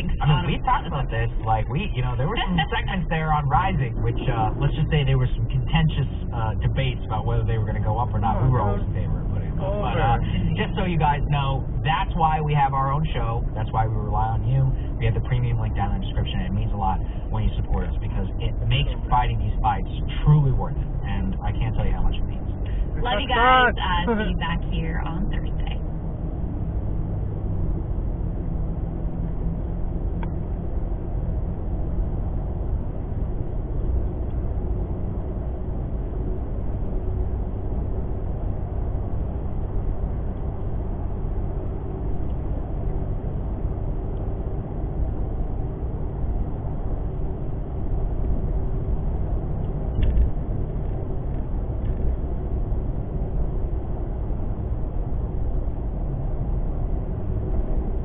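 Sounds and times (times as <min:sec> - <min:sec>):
engine and tyre rumble in cab: 0:00.0 - 0:58.0
faint steady hum: 0:00.0 - 0:58.0.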